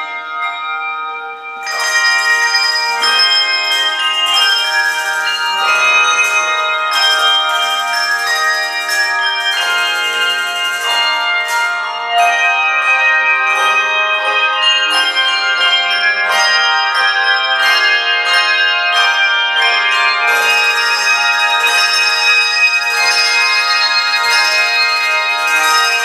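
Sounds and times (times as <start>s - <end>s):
handbell choir ringing chords: 0.0s - 26.0s.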